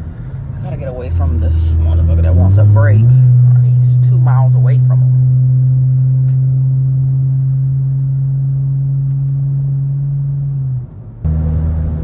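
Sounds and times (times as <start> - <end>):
car engine droning in cabin: 0.0 - 12.0.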